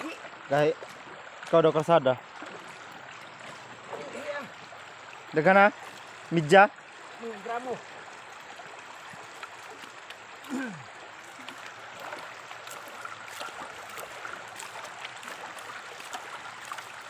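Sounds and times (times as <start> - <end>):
shallow river running over gravel: 0.0 - 17.0.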